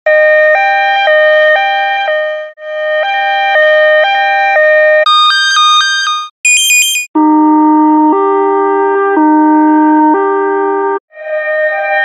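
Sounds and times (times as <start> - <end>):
two-tone ambulance siren: 0.1 - 12.0.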